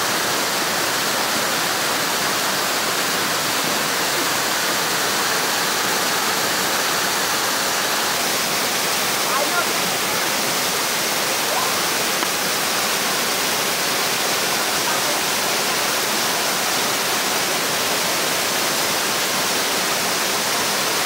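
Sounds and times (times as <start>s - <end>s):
waterfall and stream rushing: 0.0s - 21.0s.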